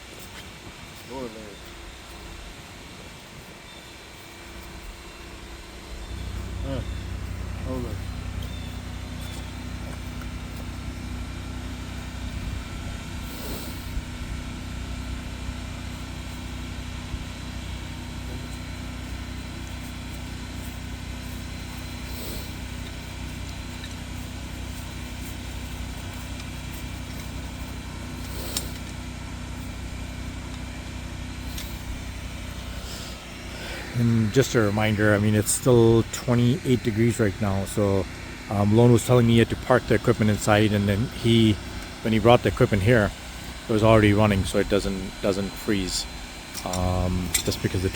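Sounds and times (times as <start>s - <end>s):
engine humming: 0.0s - 47.9s.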